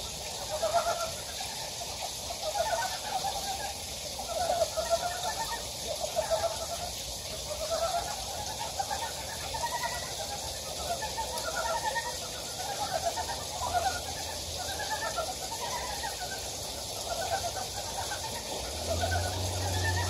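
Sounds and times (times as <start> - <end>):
frogs croaking in chorus: 0.0 - 20.0.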